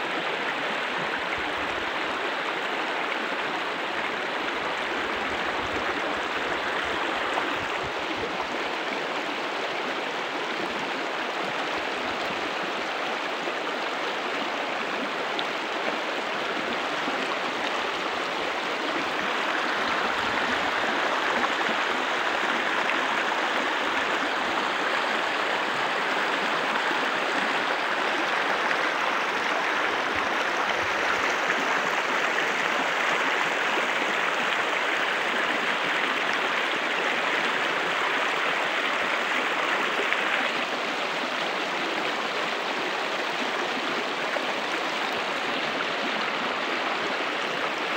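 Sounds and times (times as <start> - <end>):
water rushing over stones: 0.0 - 47.9.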